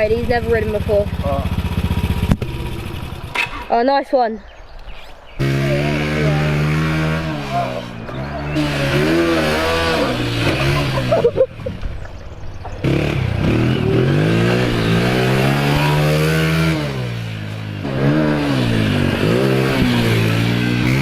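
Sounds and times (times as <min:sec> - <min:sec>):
quad engine revving: 0:00.0 - 0:04.0, 0:05.4 - 0:21.0.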